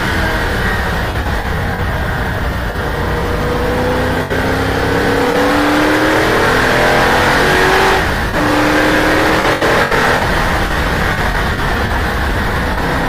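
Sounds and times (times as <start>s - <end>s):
racing car engine accelerating: 0.0s - 13.0s.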